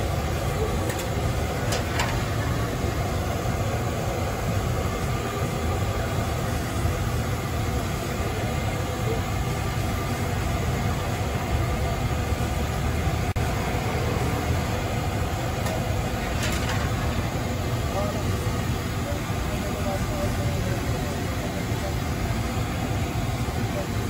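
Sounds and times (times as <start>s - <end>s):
hot oil sizzling and bubbling: 0.0s - 24.0s.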